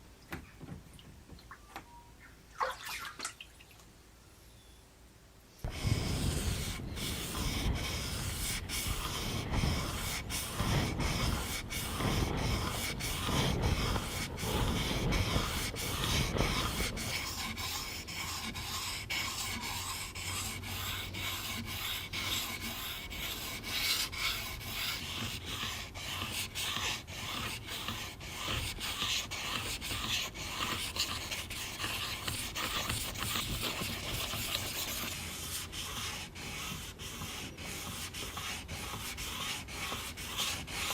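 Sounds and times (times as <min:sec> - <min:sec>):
sanding rust off knife blade: 0:05.6 - 0:40.9.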